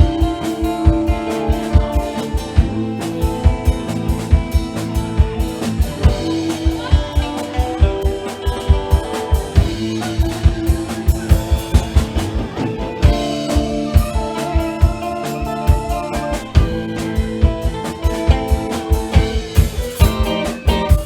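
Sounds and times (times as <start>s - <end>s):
drum kit busy rhythm: 0.0s - 21.0s
guitar: 0.0s - 21.0s
live band instrumental: 0.0s - 21.0s.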